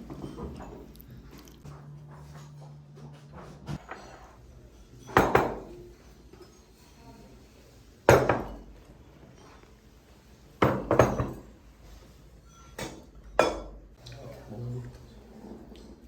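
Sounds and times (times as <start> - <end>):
dishes and cutlery clinking: 0.0 - 16.0.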